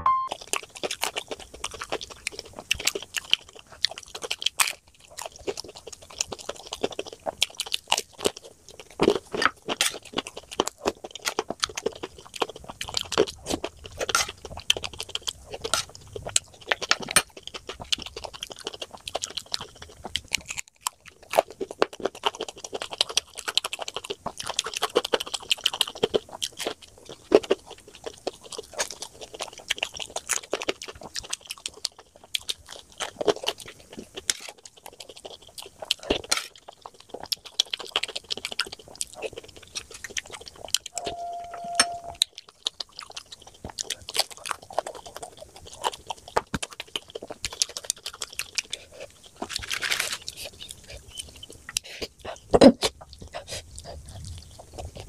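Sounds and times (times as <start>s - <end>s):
person crunching snacks: 0.3s - 41.0s, 42.2s - 55.0s.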